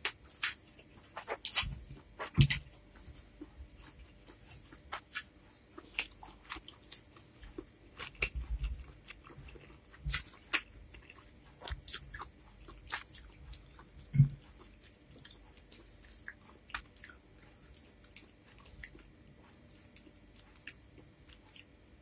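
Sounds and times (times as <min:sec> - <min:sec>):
wet chewing and lip-smacking: 0:00.0 - 0:21.8.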